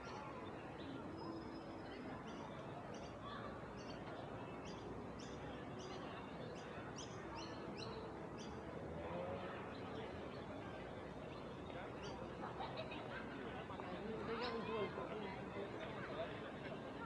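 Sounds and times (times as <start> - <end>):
street hum: 0.0 - 17.0.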